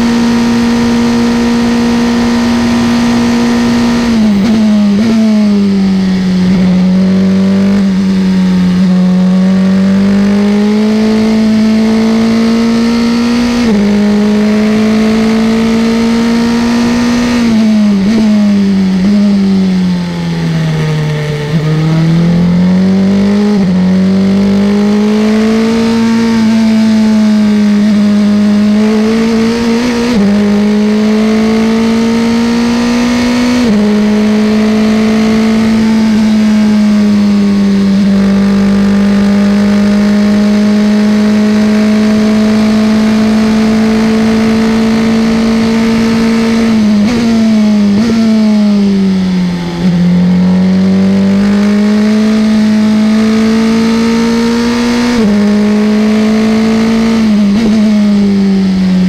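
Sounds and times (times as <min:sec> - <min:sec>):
racing car engine: 0:00.0 - 0:59.0.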